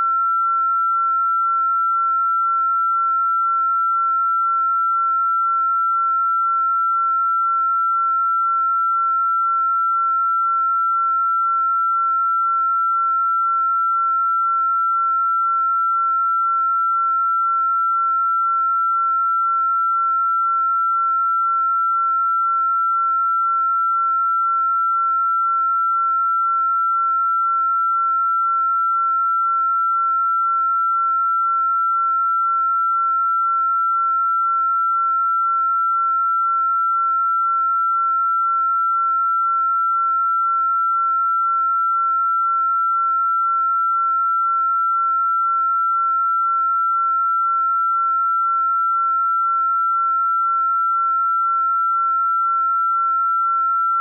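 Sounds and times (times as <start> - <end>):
high-pitched sine tone: 0.0 - 54.0.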